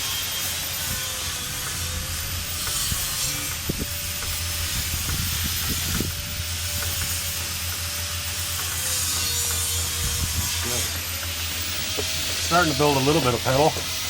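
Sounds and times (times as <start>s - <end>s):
low hum: 0.9s - 12.7s.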